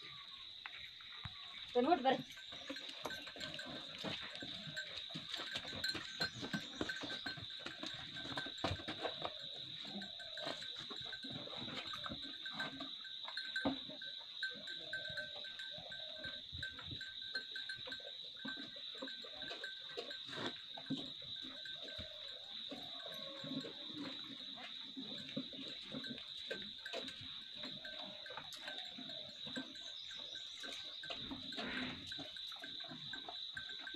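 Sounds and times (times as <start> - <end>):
cows knocking and clicking: 0.0 - 33.9.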